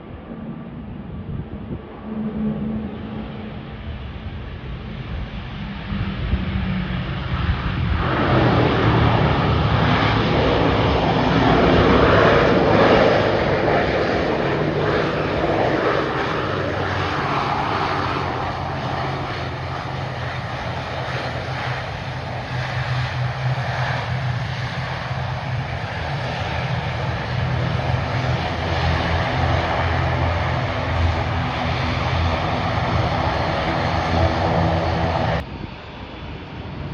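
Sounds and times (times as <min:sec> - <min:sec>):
airliner engines droning: 0:00.0 - 0:36.9.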